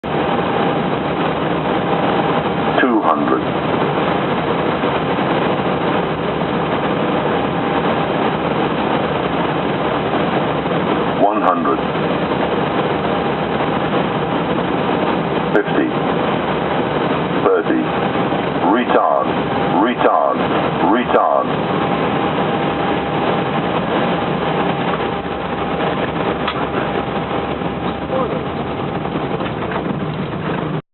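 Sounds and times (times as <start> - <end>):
aircraft cockpit rush: 0.0 - 30.8.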